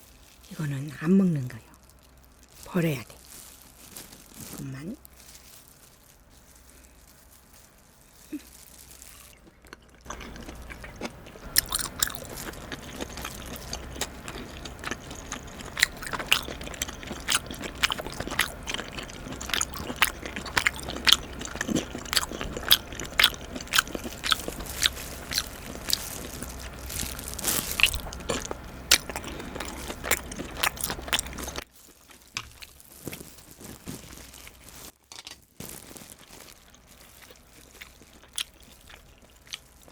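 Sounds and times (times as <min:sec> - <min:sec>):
crunchy chewing: 0:00.0 - 0:35.0, 0:35.6 - 0:39.9.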